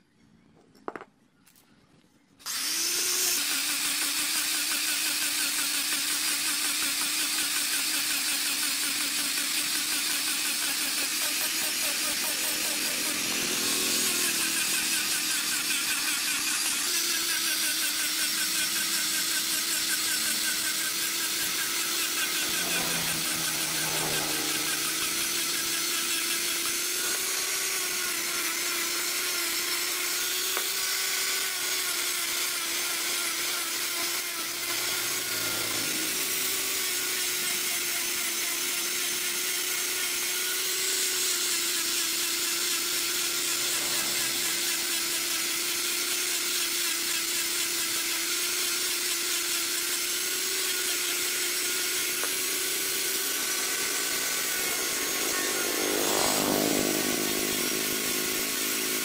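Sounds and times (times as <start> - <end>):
angle grinder motor whine: 2.4 - 59.0
sanding disc hissing on wood: 2.5 - 59.0.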